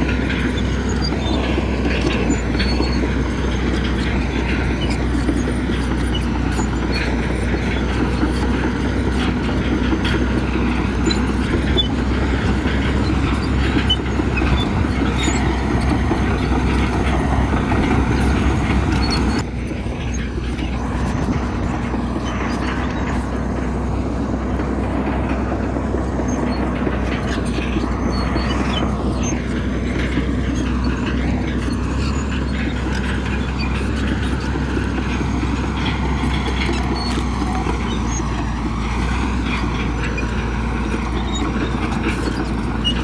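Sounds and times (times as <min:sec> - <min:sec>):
diesel engine drone: 0:00.0 - 0:43.0
steel tracks clattering: 0:00.0 - 0:43.0.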